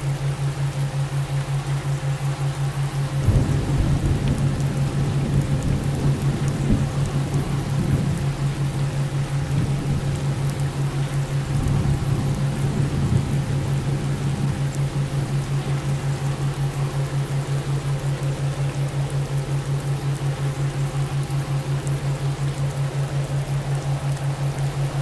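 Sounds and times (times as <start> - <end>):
pulsing low hum: 0.0 - 25.0.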